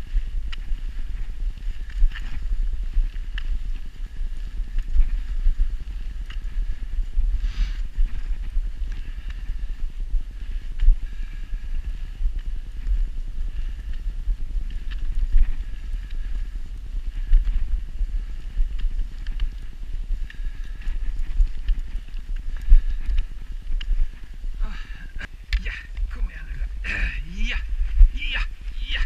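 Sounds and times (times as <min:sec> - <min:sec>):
footsteps crunching on snow: 0:00.0 - 0:29.0
wind rumble on microphone: 0:00.0 - 0:29.0.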